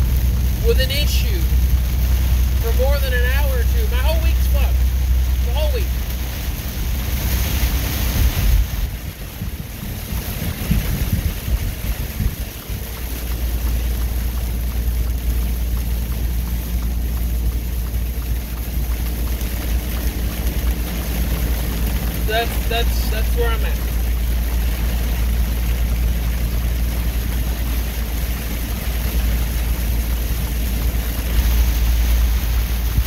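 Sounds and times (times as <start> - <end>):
low bumps: 0.0 - 33.0
rain and road spray hiss: 0.0 - 33.0
truck engine and tyres drone: 0.0 - 33.0.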